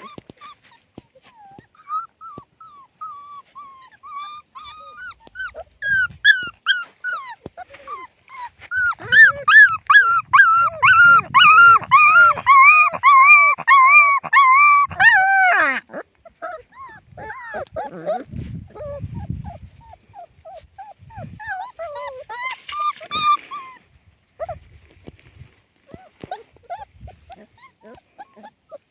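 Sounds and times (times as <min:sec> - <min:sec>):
puppies whining: 0:00.0 - 0:25.1, 0:25.8 - 0:28.9.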